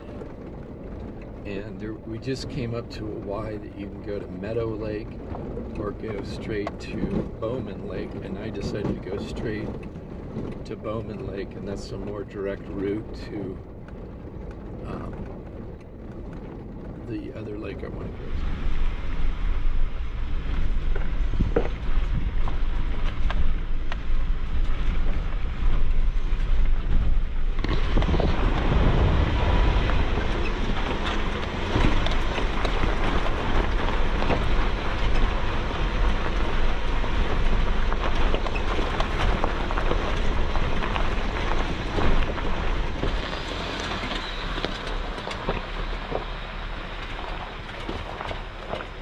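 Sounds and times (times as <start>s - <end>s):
vehicle low rumble: 0.0s - 49.0s
wind on microphone: 0.0s - 49.0s.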